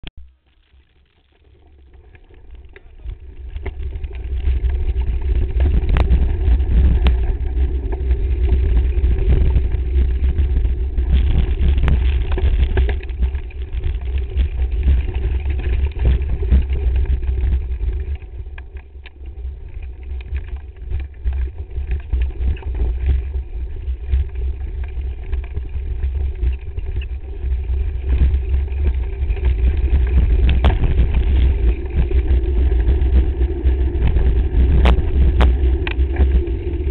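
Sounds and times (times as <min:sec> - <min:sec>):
wind and trail vibration rumble: 0:00.2 - 0:36.9.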